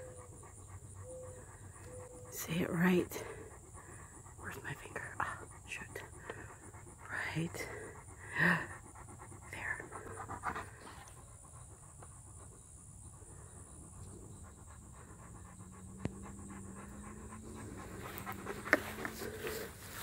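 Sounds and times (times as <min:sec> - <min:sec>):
dog panting: 0:00.0 - 0:20.0
faint low hum: 0:00.0 - 0:20.0.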